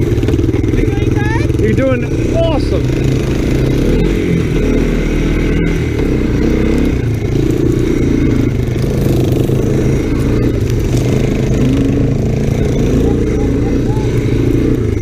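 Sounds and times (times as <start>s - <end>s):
three-wheeler engine running: 0.0s - 15.0s.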